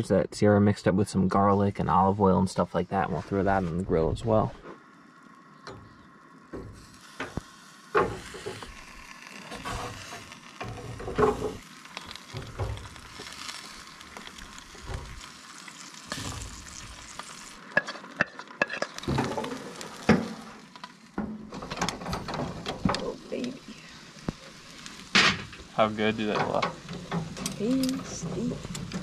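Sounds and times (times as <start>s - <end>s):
food sizzling on grill: 3.0s - 29.0s.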